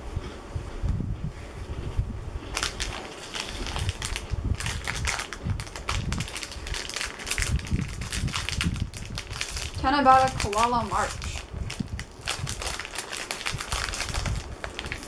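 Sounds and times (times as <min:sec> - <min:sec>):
plastic snack bag crinkling: 0:02.5 - 0:15.0.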